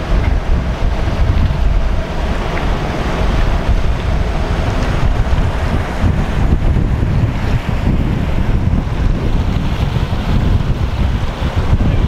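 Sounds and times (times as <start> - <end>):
choppy sea water rushing: 0.0 - 12.0
wind buffeting microphone: 0.0 - 12.0.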